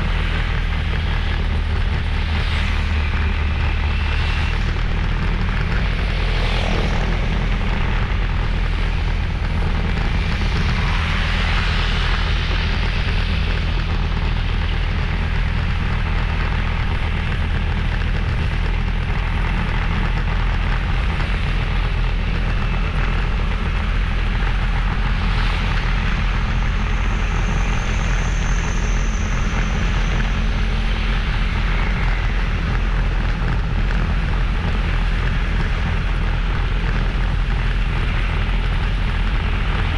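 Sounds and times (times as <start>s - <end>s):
motorbike engine running: 0.0s - 39.9s
wind and road noise: 0.0s - 39.9s.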